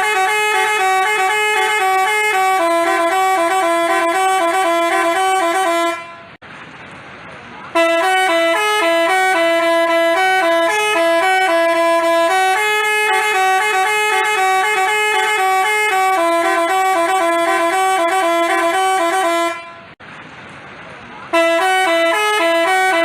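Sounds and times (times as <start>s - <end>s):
bus horn playing a tune: 0.0s - 6.4s, 7.7s - 20.0s, 21.3s - 23.0s.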